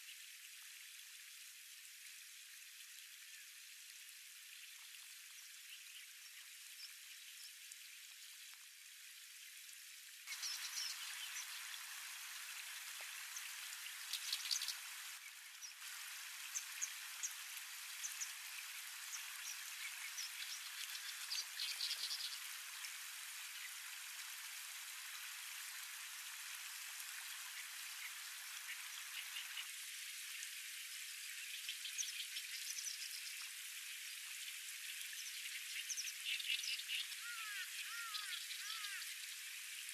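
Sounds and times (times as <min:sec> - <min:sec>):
small water drips: 0:00.0 - 0:39.9.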